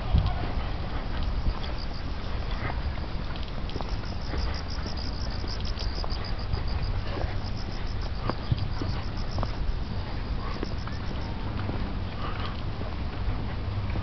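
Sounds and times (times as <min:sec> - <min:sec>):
footsteps on pavement: 0:00.0 - 0:14.0
steady low rumble: 0:00.0 - 0:14.0.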